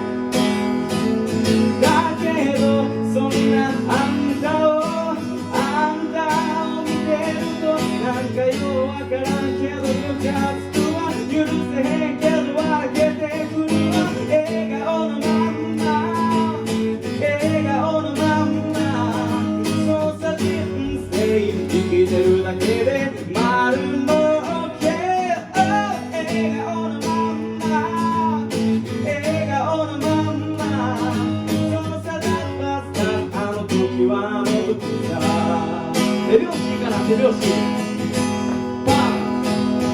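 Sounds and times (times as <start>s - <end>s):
acoustic guitar strummed and picked: 0.0s - 39.9s.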